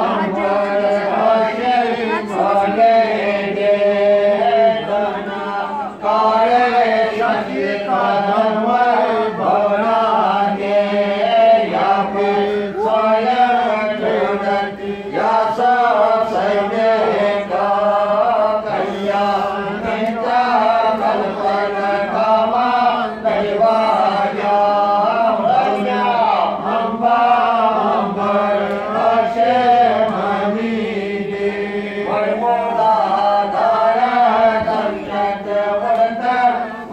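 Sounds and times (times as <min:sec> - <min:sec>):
voices chanting together: 0:00.0 - 0:36.9.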